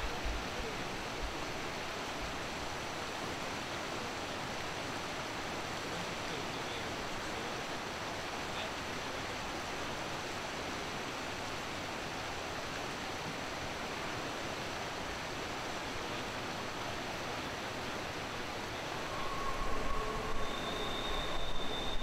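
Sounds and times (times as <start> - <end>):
river rushing over boulders: 0.0 - 22.0.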